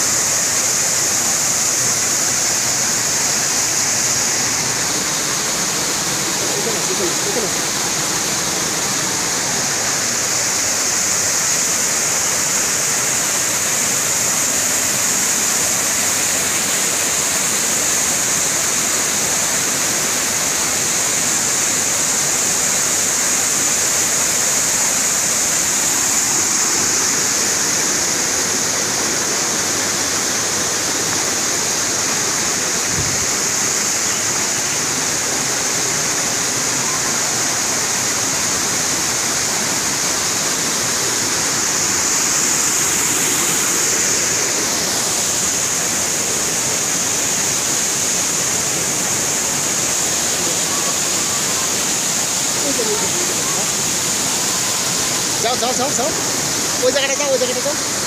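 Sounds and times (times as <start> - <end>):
water splashing over stones: 0.0 - 58.0
waterfall rushing: 0.0 - 58.0.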